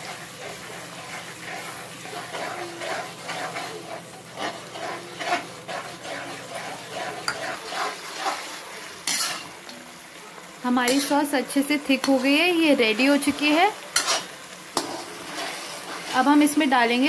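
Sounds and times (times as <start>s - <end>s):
metal spatula scraping a pan: 0.0s - 9.7s, 10.8s - 17.0s
sauce simmering: 0.0s - 17.0s.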